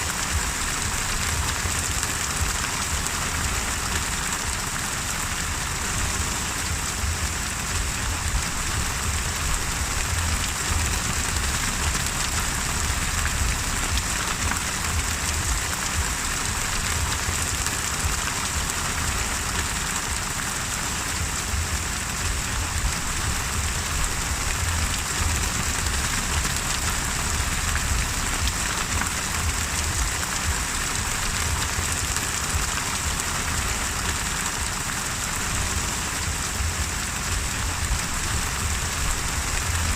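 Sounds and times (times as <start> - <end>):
steady rain falling: 0.0 - 39.9
low rumble: 5.4 - 20.4, 21.1 - 34.8, 35.4 - 39.9.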